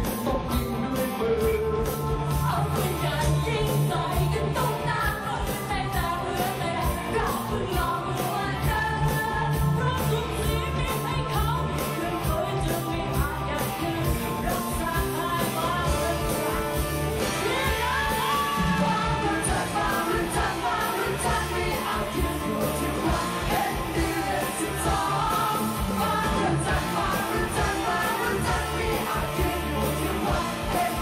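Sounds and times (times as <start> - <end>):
bass: 0.0 - 31.0
people singing into microphones: 0.0 - 31.0.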